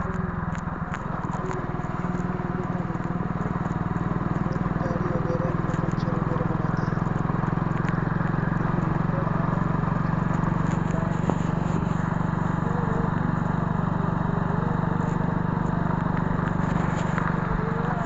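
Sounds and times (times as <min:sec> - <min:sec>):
road noise: 0:00.0 - 0:18.0
vehicle engine droning: 0:00.0 - 0:18.0.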